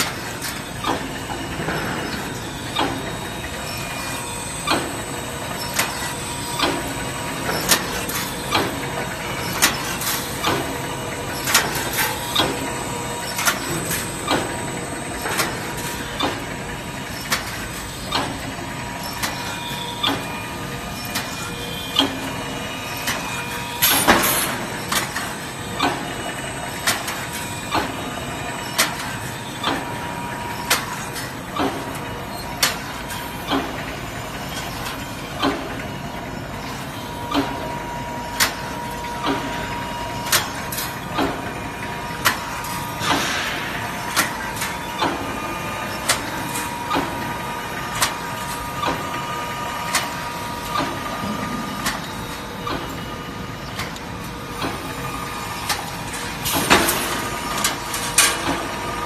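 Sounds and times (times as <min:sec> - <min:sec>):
steady machine hum: 0:00.0 - 0:59.0
welding machine clacking: 0:00.0 - 0:59.0.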